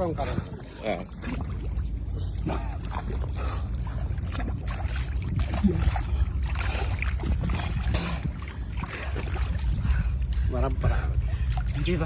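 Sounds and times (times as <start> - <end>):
steady low rumble: 0.0 - 12.0
water splashing around boat: 0.0 - 12.0.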